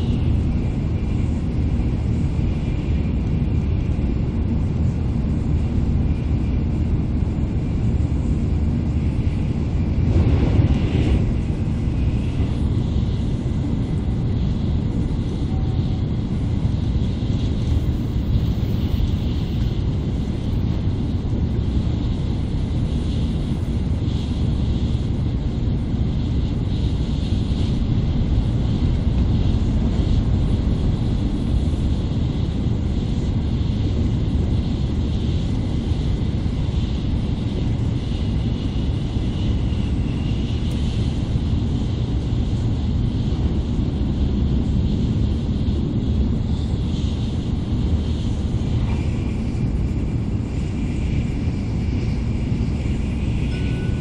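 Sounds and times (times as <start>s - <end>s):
hiss: 0.0s - 54.0s
train cabin low rumble: 0.0s - 54.0s.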